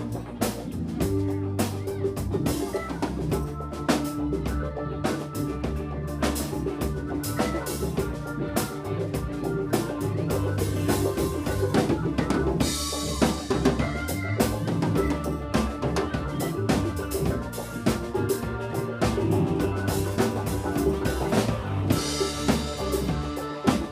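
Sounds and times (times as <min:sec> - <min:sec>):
live band playing: 0:00.0 - 0:23.9.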